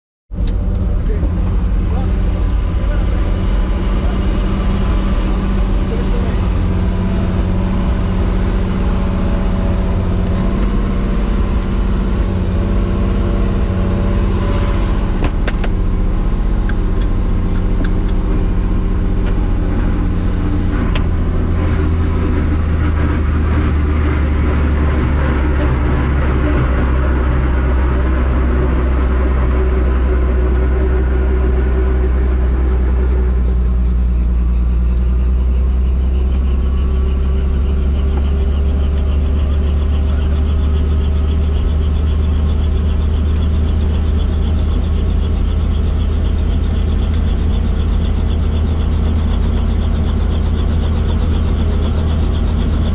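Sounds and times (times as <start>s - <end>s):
helicopter engine and rotor drone: 0.4s - 52.9s.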